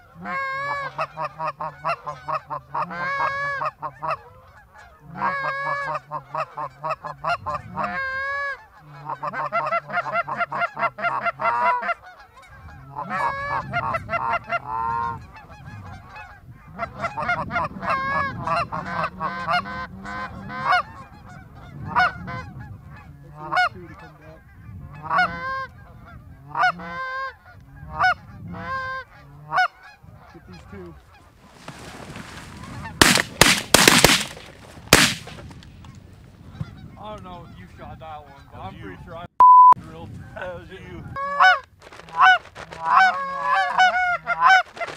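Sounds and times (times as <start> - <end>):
geese honking: 0.0 - 35.6, 40.3 - 44.9.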